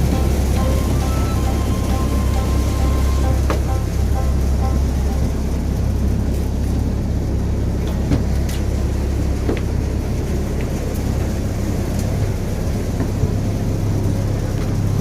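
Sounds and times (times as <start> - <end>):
aircraft engine drone in cabin: 0.0 - 15.0.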